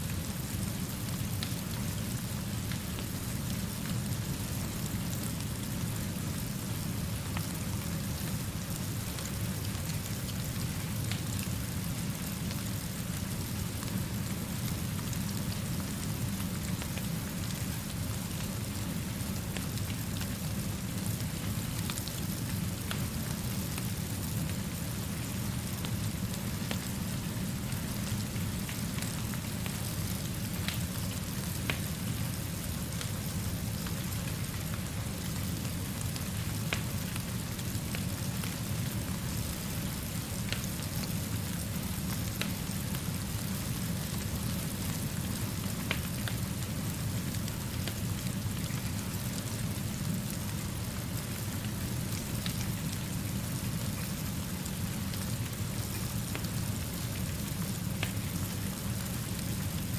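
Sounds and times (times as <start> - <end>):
steady rain falling: 0.0 - 59.9
wood fire crackling: 0.4 - 59.9.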